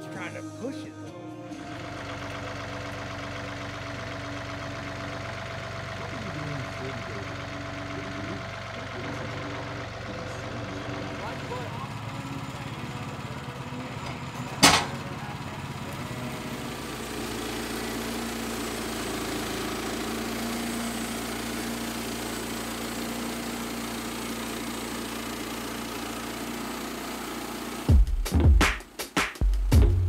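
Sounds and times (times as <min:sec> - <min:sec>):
small gas engine running: 0:01.4 - 0:30.0.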